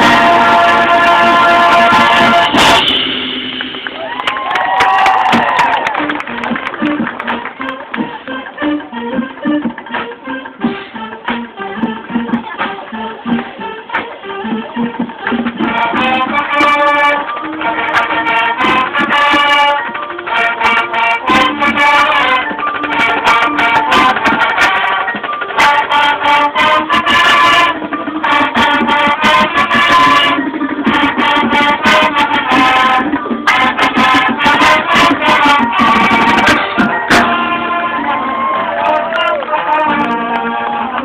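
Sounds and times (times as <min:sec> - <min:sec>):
marching band playing: 0:00.0 - 0:41.0.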